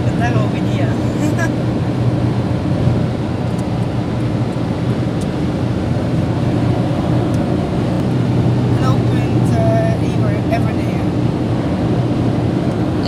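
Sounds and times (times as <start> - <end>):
car cabin road noise: 0.0 - 13.0
constant low hum: 0.0 - 13.0.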